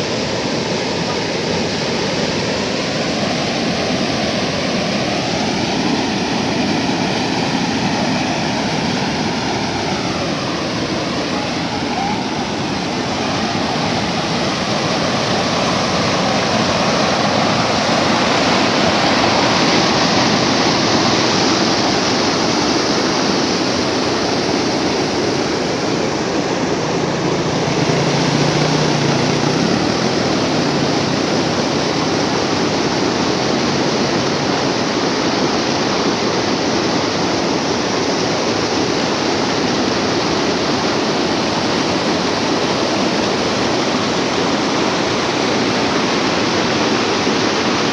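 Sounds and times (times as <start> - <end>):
water rushing over weir: 0.0 - 47.9.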